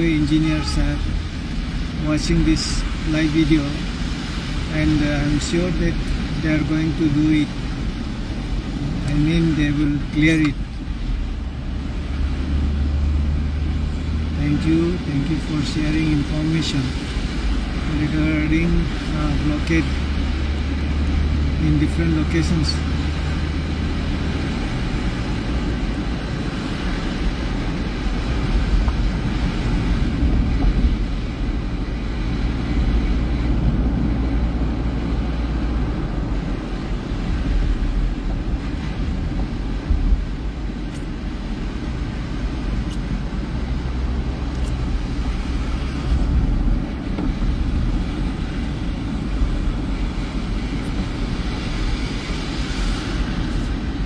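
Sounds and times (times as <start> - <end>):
car engine rumble: 0.0 - 54.0
tyres on wet road: 0.0 - 54.0.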